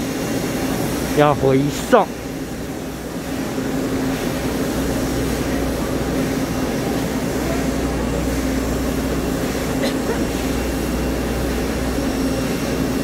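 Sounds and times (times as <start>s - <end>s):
diesel train engines idling: 0.0s - 13.0s.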